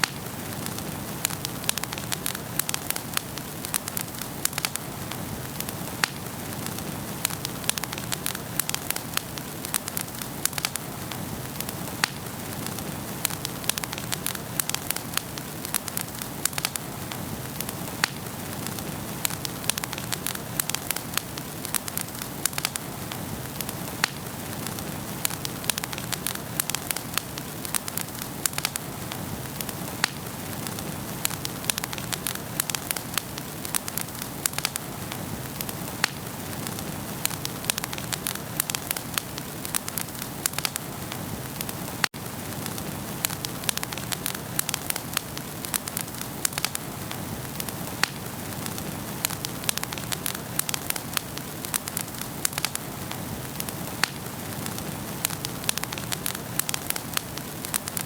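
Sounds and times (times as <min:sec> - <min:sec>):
fire crackling and popping: 0:00.0 - 0:58.0
flames hissing: 0:00.0 - 0:58.0.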